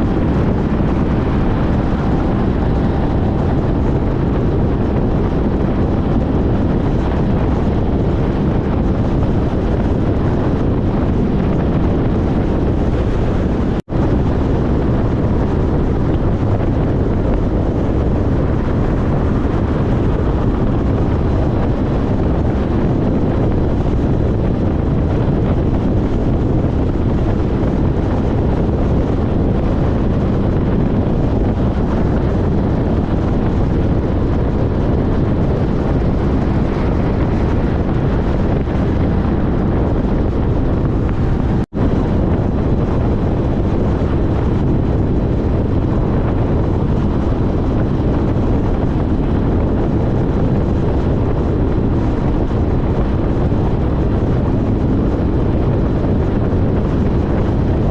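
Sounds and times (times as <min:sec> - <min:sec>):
motorcycle road noise: 0:00.0 - 0:57.9
wind rushing on microphone: 0:00.0 - 0:57.9.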